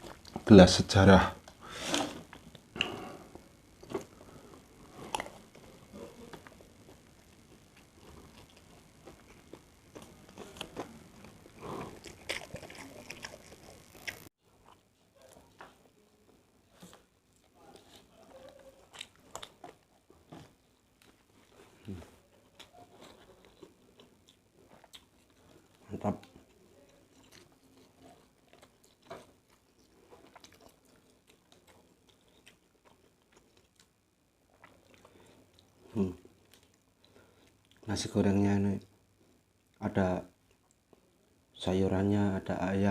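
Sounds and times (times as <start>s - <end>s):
chewing fried rice: 1.4s - 16.0s, 16.6s - 38.0s.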